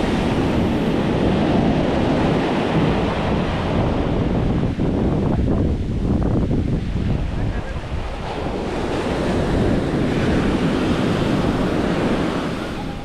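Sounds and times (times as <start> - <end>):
surf breaking on sand: 0.0 - 13.0
wind rumbling on microphone: 0.0 - 13.0.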